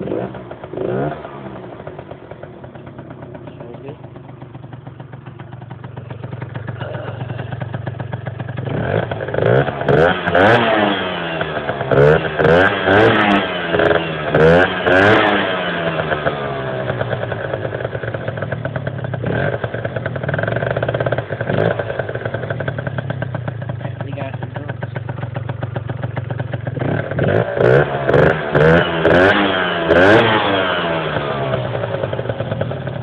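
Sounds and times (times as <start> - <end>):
moped engine idling and revving: 0.0 - 33.0.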